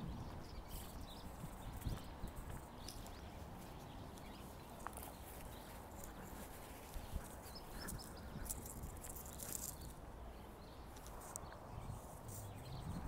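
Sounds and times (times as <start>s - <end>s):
soft footsteps on tarmac: 0.0s - 13.0s.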